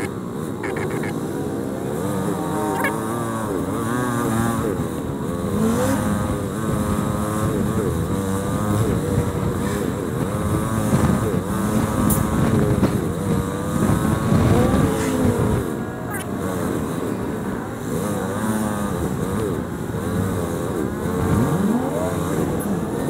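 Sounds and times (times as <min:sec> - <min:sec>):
motorcycle engine: 0:00.0 - 0:23.0
traffic noise: 0:00.0 - 0:23.0.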